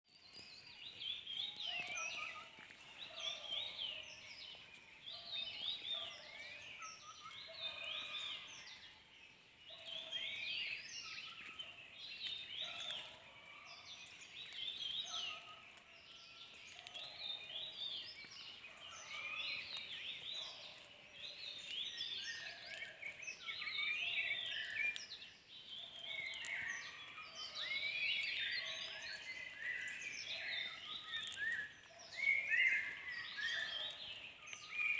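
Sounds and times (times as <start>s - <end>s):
birds chirping and chattering: 0.1s - 34.9s.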